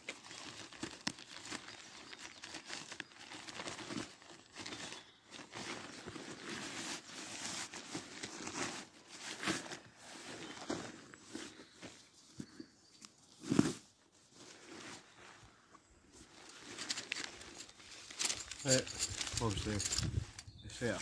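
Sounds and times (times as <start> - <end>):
tent fabric rustling: 2.8 - 12.4, 13.3 - 21.0.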